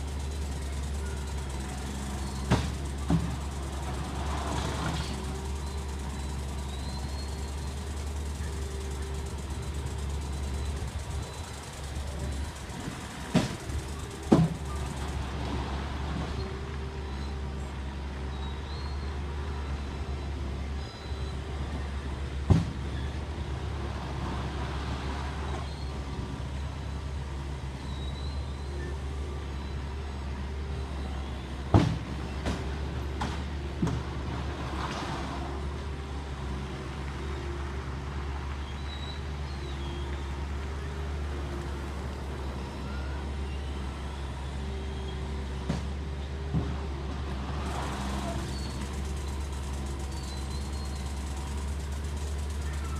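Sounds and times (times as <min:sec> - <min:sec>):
construction machinery drone: 0:00.0 - 0:52.9.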